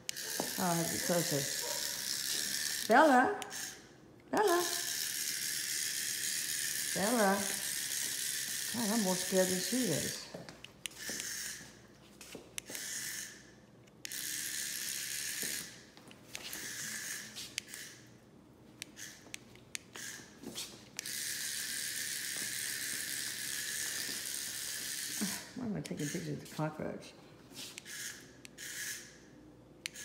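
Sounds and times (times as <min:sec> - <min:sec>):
small electric toy motor: 0:00.0 - 0:11.8, 0:12.6 - 0:18.2, 0:18.8 - 0:26.6, 0:27.6 - 0:30.0.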